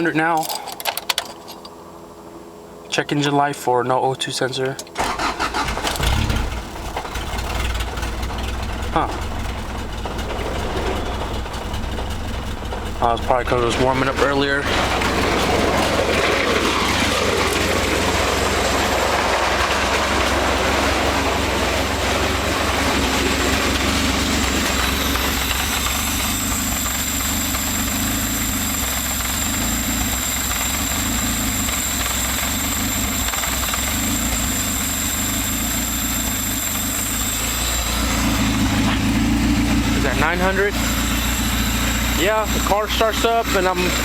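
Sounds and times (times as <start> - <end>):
high steady whine: 0.0 - 44.0
car engine idling loudly: 4.9 - 44.0.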